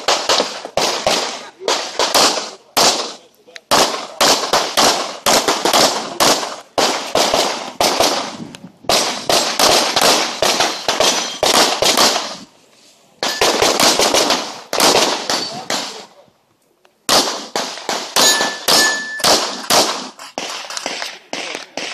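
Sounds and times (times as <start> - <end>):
rapid pistol fire: 0.0 - 12.4, 13.2 - 16.0, 17.1 - 21.9.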